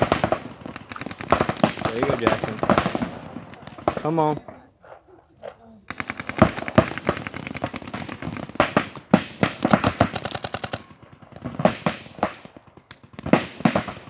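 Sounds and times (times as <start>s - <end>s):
paintball markers firing rapidly: 0.0s - 4.6s, 5.8s - 14.0s.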